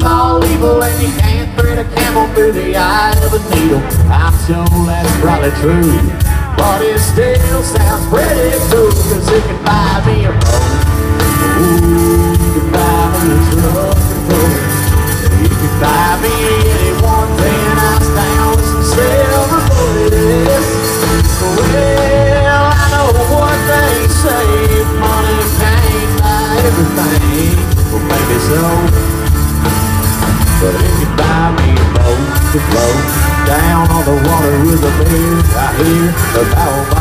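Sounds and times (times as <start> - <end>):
country-rock band playing: 0.0 - 37.0
sliding lead guitar melody: 0.0 - 37.0.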